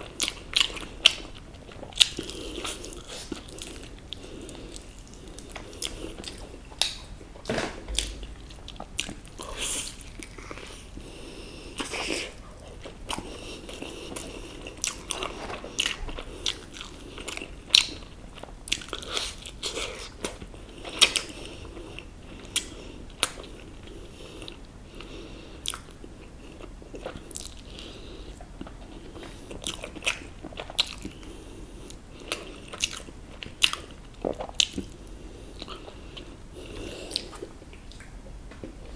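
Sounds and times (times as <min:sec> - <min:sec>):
quiet chewing: 0:00.0 - 0:38.9.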